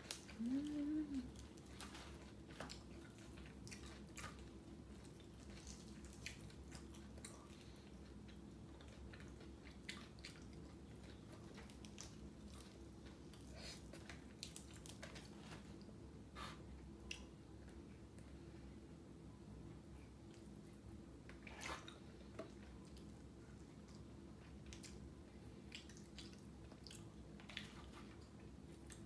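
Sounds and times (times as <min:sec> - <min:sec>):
person chewing food: 0:00.0 - 0:18.4, 0:20.1 - 0:29.0.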